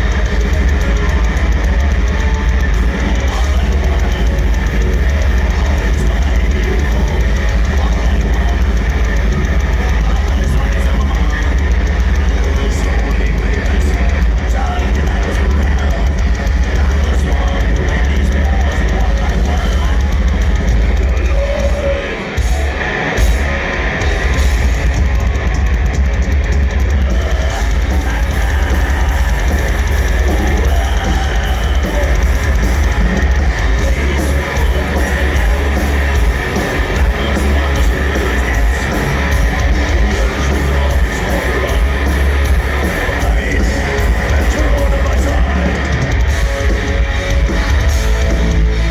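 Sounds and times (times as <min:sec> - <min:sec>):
distorted electric guitars: 0:00.0 - 0:48.9
drum kit: 0:00.0 - 0:48.9.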